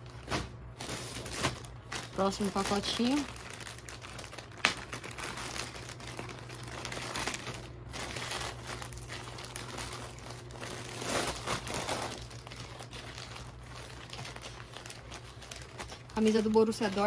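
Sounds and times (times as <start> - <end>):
plastic bags rustling: 0.0 - 17.0
plastic mailer bag crinkling: 0.0 - 17.0.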